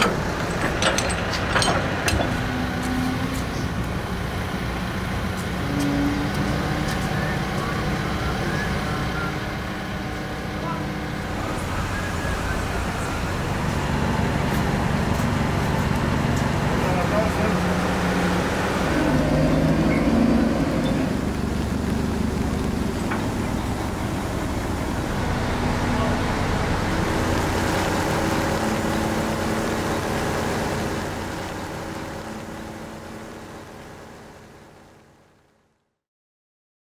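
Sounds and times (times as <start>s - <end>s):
diesel engine running: 0.0s - 35.6s.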